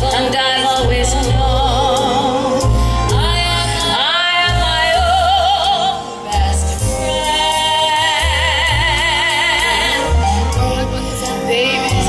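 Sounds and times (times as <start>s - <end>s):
band with deep bass: 0.0s - 12.0s
woman singing with vibrato: 0.0s - 12.0s.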